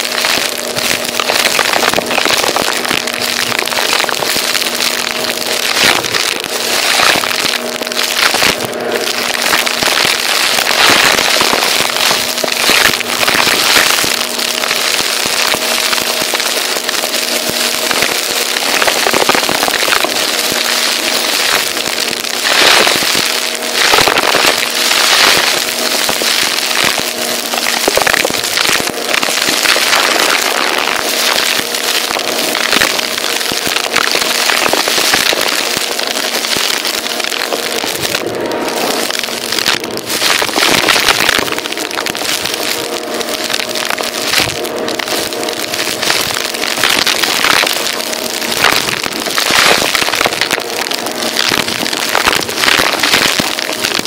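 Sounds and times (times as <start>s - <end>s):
grit crackling in vacuum: 0.0s - 54.0s.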